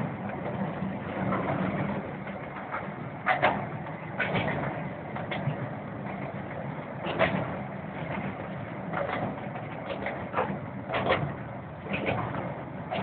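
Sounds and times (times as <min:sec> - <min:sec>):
miniature steam train rumbling: 0:00.0 - 0:13.0
wheels clicking over rail joints: 0:00.0 - 0:13.0.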